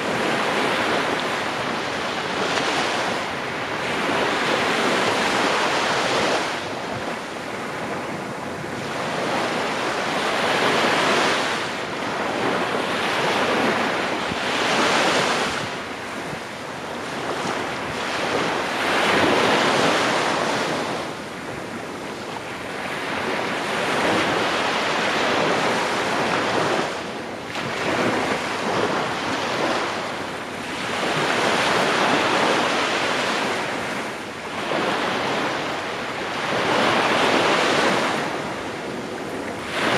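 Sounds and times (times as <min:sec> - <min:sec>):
small waves breaking on sand: 0:00.0 - 0:39.9
wind buffeting microphone: 0:00.0 - 0:39.9.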